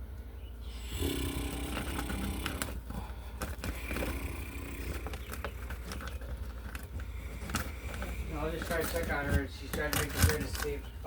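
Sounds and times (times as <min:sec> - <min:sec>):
wires scraping in wall: 0:00.8 - 0:11.0.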